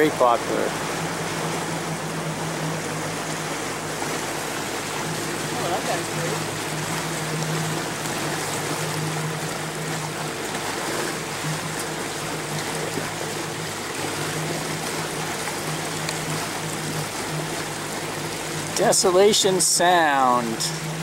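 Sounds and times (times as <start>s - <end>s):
motorboat engine droning: 0.0s - 21.0s
water rushing along hull: 0.0s - 21.0s.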